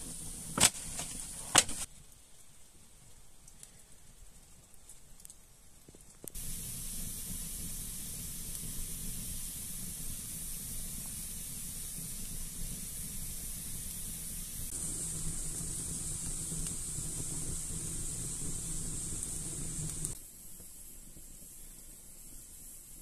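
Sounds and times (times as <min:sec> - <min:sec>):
wood fire hissing: 0:00.0 - 0:01.9, 0:03.4 - 0:23.0.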